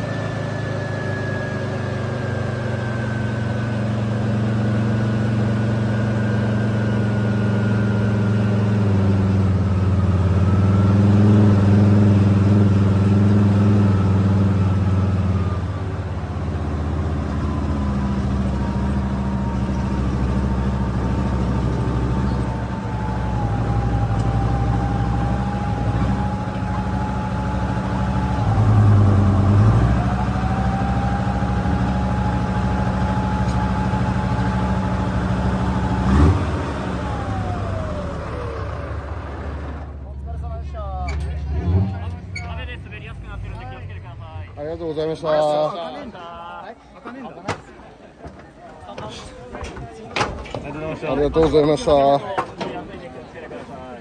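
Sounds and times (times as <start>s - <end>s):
tank diesel engine running: 0.0s - 54.0s.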